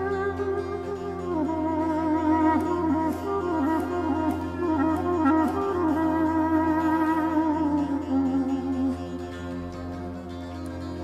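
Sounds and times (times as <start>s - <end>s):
clarinet folk melody: 0.0s - 11.0s.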